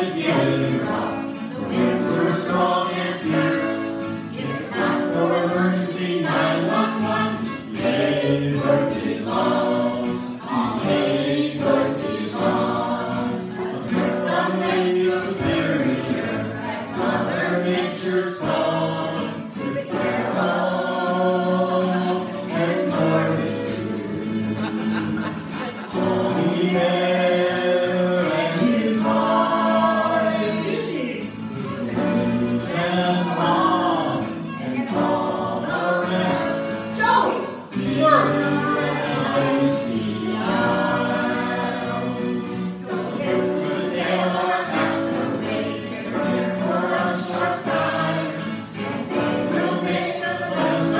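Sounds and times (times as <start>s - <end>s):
acoustic guitar: 0.0s - 50.9s
group singing: 0.0s - 50.9s.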